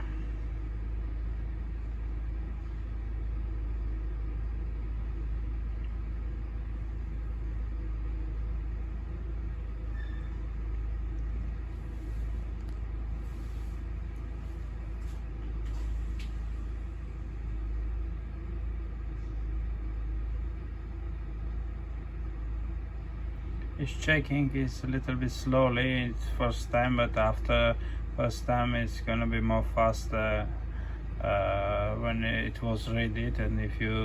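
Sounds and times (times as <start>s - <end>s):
truck engine idling: 0.0s - 34.0s.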